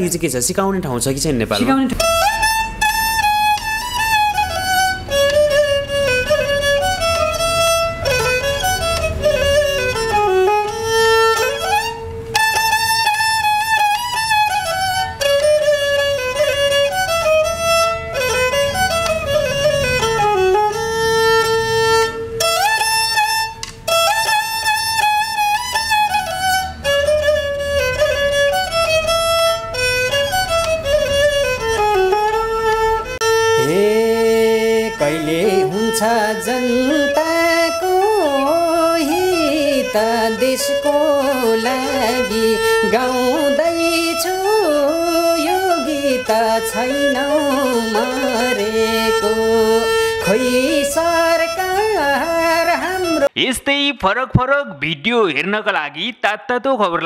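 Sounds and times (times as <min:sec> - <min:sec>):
bowed fiddle melody: 0:00.0 - 0:53.4.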